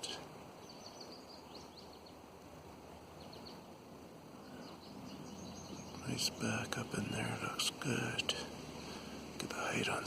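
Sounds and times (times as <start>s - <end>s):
faint bird chirps: 0.0s - 10.0s
outdoor background noise: 0.0s - 10.0s.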